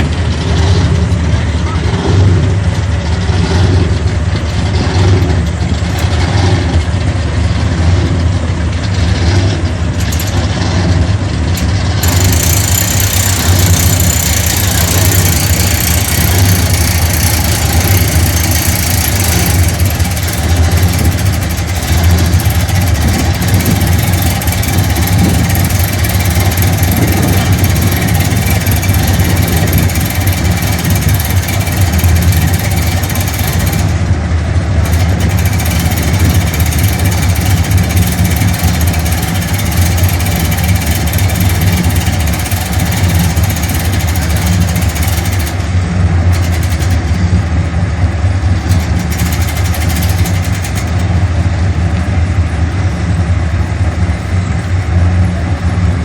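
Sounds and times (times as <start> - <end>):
large engine idling: 0.0 - 56.0.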